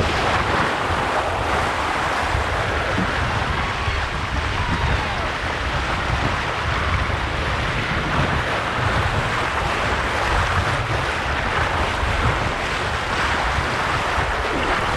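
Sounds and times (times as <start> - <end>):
seawater splashing: 0.0 - 14.9
wind buffeting microphone: 0.0 - 14.9.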